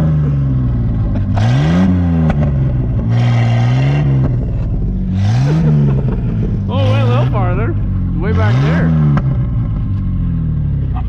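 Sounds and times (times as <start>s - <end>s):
tires rushing through snow: 0.0s - 11.0s
truck engine revving: 0.0s - 11.0s.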